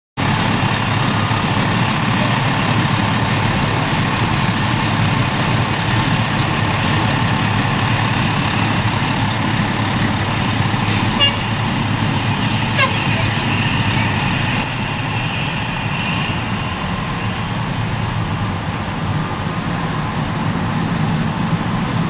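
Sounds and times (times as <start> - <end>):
diesel engine idling: 0.2 - 22.0.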